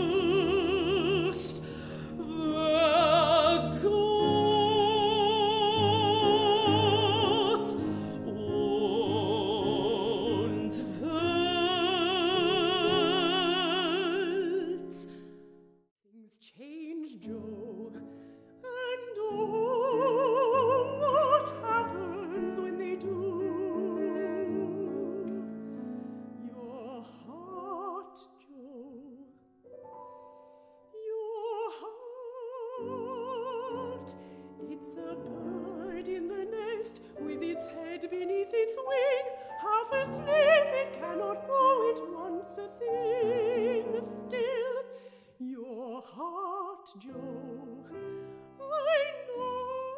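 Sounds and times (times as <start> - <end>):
woman singing opera: 0.0 - 15.4, 16.1 - 29.5, 31.0 - 49.9
grand piano: 0.0 - 15.9, 16.7 - 49.9.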